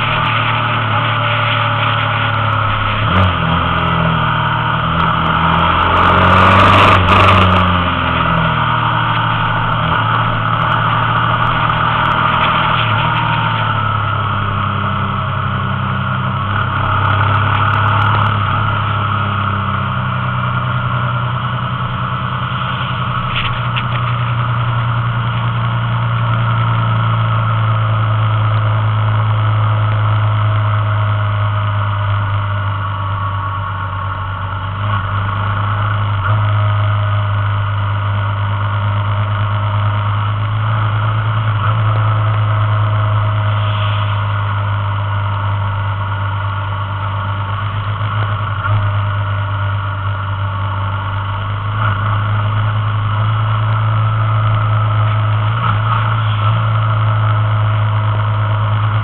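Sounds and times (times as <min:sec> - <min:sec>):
motorcycle engine droning: 0:00.0 - 0:59.0
road noise: 0:00.0 - 0:59.0.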